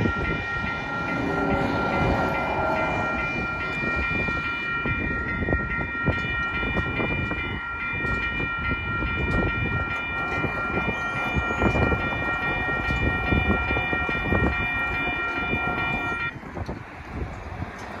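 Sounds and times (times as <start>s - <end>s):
crossing warning bell ringing: 0.0s - 16.5s.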